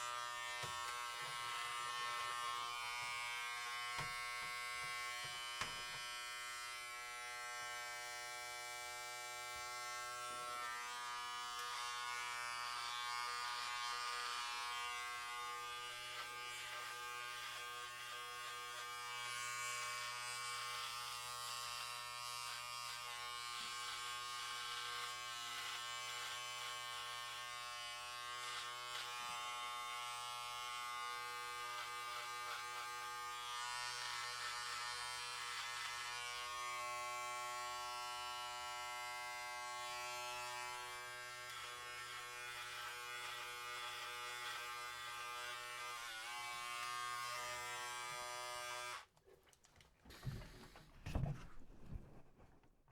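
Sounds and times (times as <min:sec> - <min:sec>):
clipper blades cutting hair: 0:00.0 - 0:49.1
electric hair clippers buzzing: 0:00.0 - 0:49.1.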